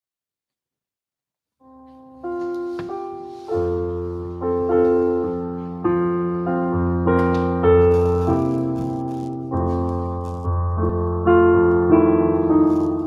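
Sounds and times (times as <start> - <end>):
piano-toned keyboard chords: 1.6 - 13.0.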